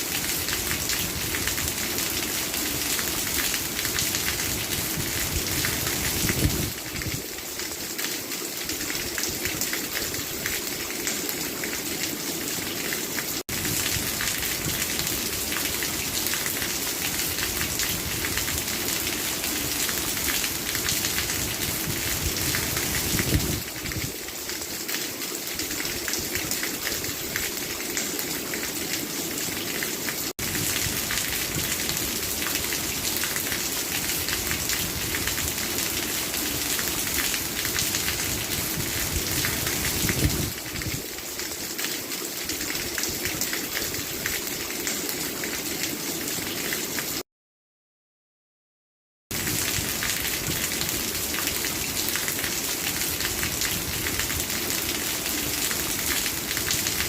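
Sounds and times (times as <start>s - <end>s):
heavy rain falling: 0.0s - 47.2s, 49.3s - 57.0s.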